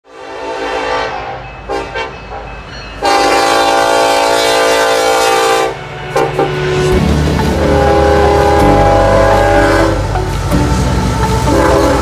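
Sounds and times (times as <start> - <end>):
locomotive air horn: 0.1 - 2.1, 3.0 - 12.0.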